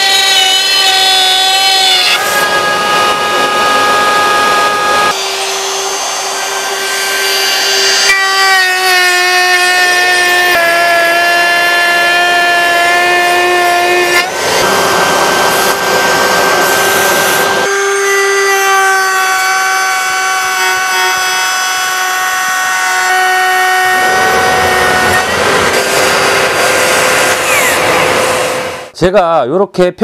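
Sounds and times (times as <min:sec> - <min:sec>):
router bit cutting wood: 0:00.0 - 0:28.9
trim router whine: 0:00.0 - 0:28.9.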